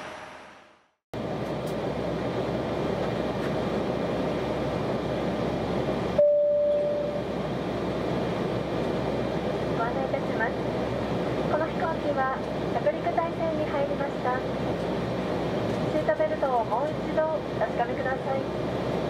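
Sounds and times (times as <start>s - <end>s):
airliner cabin engine noise: 1.2s - 19.0s.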